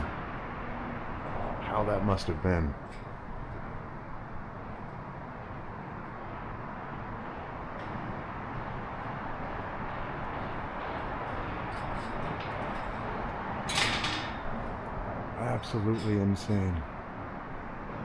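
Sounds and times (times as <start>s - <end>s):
outdoor background hiss and rumble: 0.0s - 18.0s.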